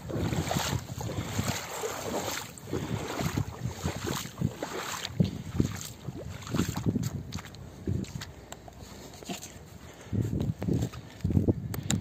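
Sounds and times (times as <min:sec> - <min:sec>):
wind buffeting microphone: 0:00.0 - 0:08.5, 0:09.6 - 0:12.0
footsteps along shoreline: 0:00.0 - 0:12.0.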